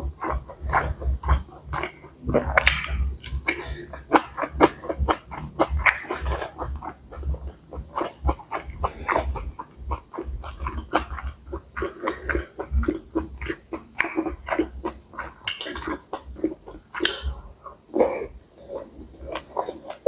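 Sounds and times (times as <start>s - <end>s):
wet chewing and smacking: 0.0s - 20.0s.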